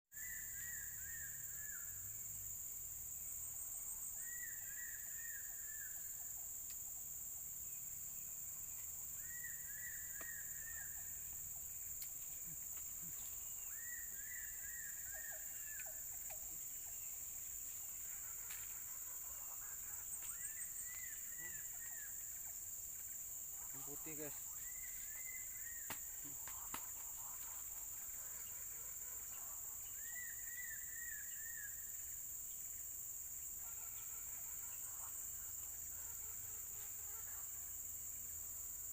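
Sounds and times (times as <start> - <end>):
insect drone: 0.1 - 38.9.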